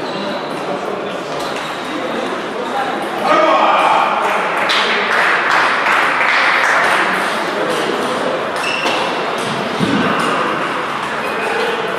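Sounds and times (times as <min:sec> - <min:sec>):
background din of hall: 0:00.0 - 0:11.9.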